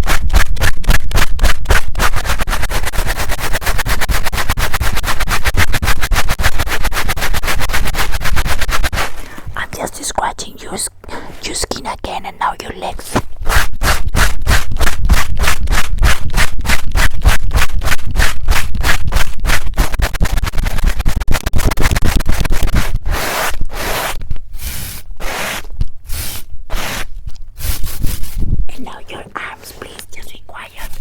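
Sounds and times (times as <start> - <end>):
scratching on microphones: 0.0 - 31.0.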